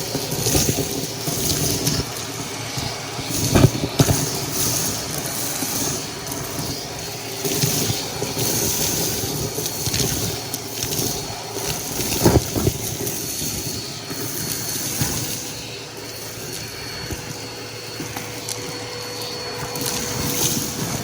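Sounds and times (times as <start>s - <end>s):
knocks and crackles: 0.0s - 21.0s
vacuum cleaner motor hum: 0.0s - 21.0s.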